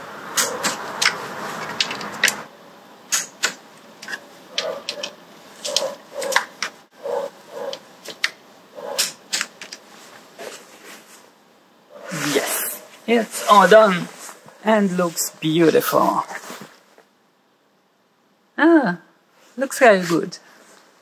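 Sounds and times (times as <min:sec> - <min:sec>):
soft rustling hiss: 0:00.5 - 0:18.4, 0:19.2 - 0:21.0.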